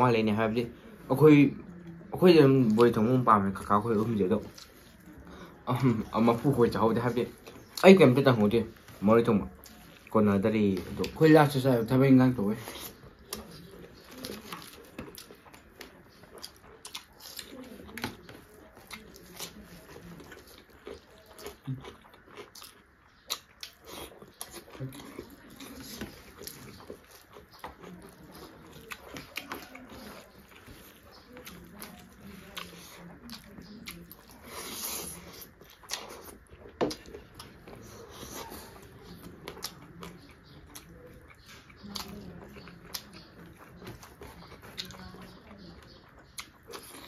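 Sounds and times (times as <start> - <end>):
wet chewing and lip-smacking: 2.6 - 10.1, 12.4 - 47.0.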